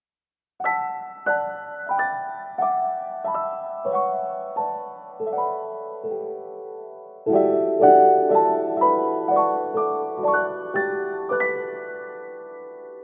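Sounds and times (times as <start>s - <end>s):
gentle piano music: 0.6s - 13.0s.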